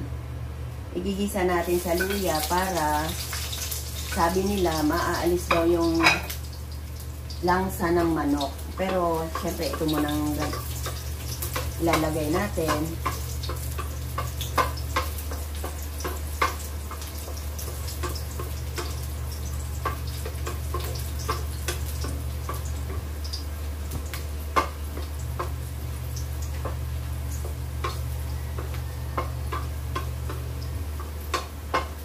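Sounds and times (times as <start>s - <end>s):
steady low hum: 0.0s - 32.0s
food sizzling in oil: 1.3s - 32.0s.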